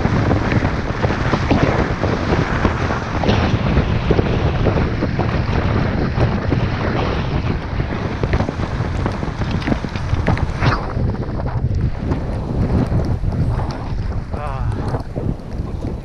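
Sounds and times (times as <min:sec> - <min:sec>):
skis sliding on snow: 0:00.0 - 0:16.0
wind buffeting microphone: 0:00.0 - 0:16.0.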